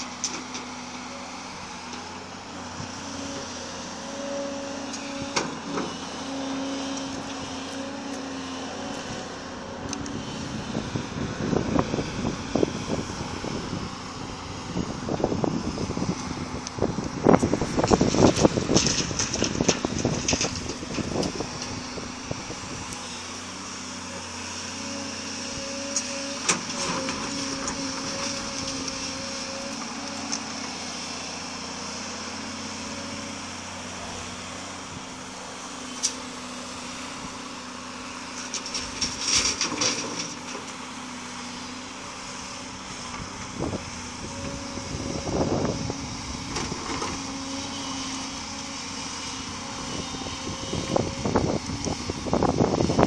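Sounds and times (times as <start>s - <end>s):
excavator diesel engine: 0.0s - 53.0s
hydraulic whine: 0.0s - 53.0s.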